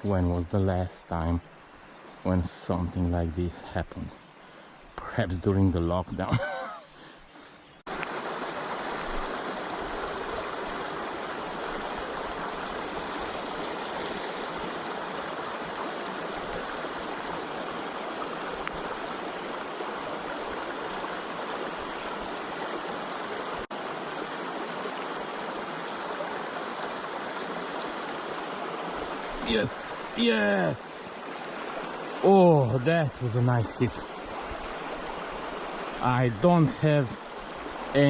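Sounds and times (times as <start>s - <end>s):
river current rushing: 6.6s - 38.0s.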